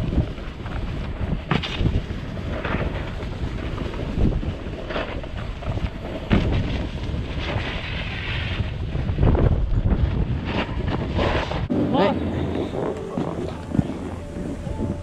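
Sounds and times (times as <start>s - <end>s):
snowboard edges scraping snow: 0.0s - 15.0s
wind rushing over microphone: 0.0s - 15.0s.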